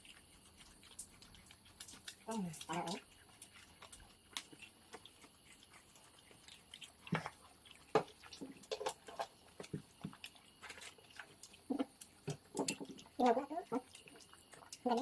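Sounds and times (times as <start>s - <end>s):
chewing and mouth smacks: 0.0s - 15.0s.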